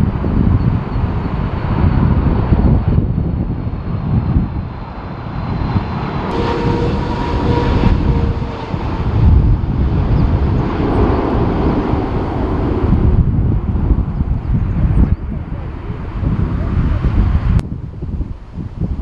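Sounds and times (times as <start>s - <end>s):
jet engine whine: 0.0s - 17.6s
wind buffeting microphone: 0.0s - 19.0s.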